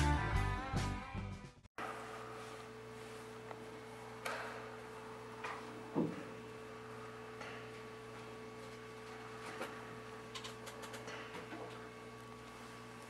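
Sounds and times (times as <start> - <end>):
low electrical hum: 1.8 - 13.0.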